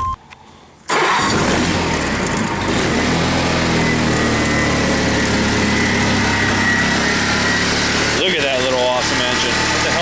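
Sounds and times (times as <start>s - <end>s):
lawn tractor engine running: 0.9s - 10.0s.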